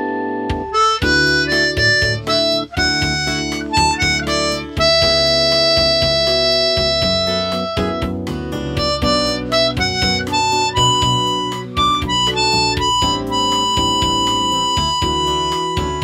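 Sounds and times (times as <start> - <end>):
guitar accompaniment: 0.0 - 16.0
harmonica playing ballad: 0.7 - 16.0.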